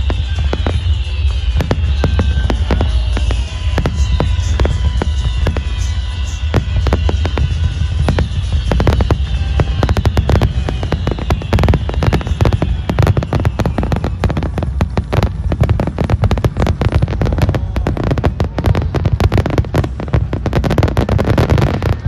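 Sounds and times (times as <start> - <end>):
falling firework whistles: 0.0 - 22.0
fireworks bangs and crackles: 0.0 - 22.0.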